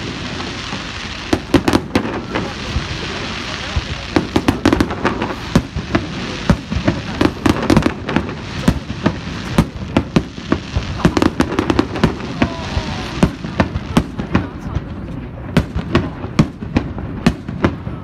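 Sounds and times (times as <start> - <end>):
continuous hiss: 0.0 - 18.0
fireworks bangs: 0.0 - 18.0.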